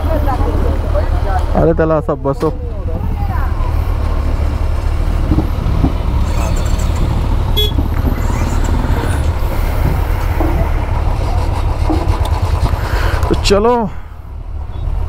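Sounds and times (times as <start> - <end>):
vehicle engines rumbling: 0.0 - 15.0.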